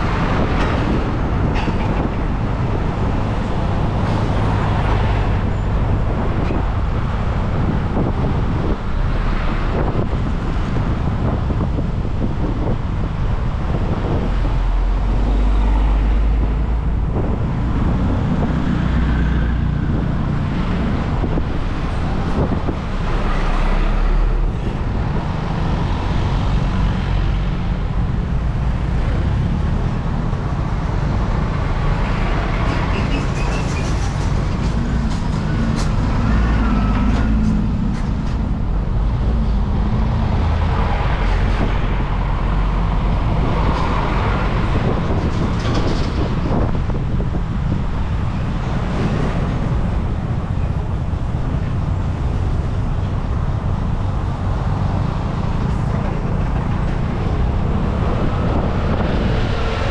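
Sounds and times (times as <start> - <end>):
nearby cars and truck: 0.0 - 59.9
wind and tyre noise: 0.0 - 59.9.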